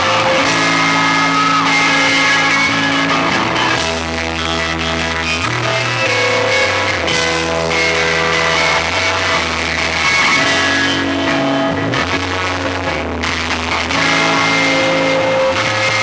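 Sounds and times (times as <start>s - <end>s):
drum kit: 0.0s - 16.0s
electric guitars: 0.0s - 16.0s.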